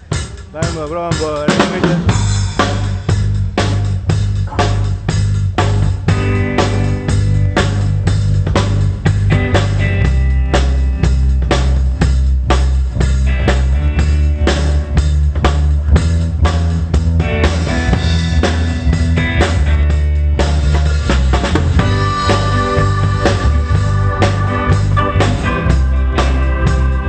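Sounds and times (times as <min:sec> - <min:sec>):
drum kit beat: 0:00.0 - 0:27.0
held bass notes: 0:00.0 - 0:27.0
pop band playing live: 0:00.0 - 0:27.0.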